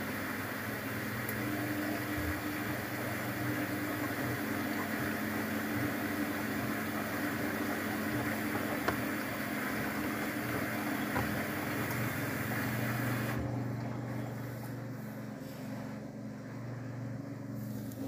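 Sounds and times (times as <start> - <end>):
washing machine low hum: 0.0 - 18.0
washing machine rushing hiss: 0.0 - 18.0.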